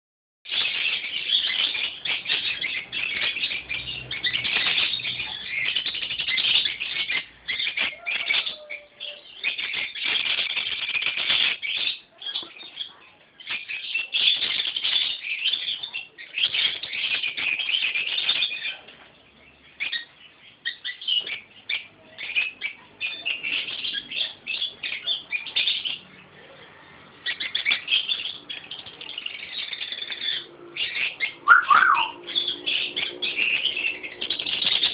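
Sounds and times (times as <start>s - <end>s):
parrot chirping and chattering: 0.5s - 18.8s, 19.7s - 26.4s, 27.1s - 34.9s.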